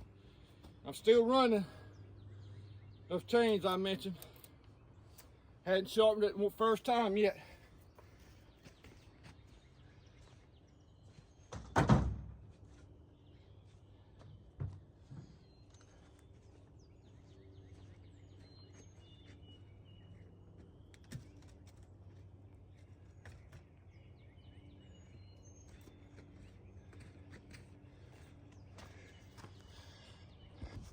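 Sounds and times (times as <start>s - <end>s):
birds chirping: 0.0s - 11.8s, 12.6s - 30.9s.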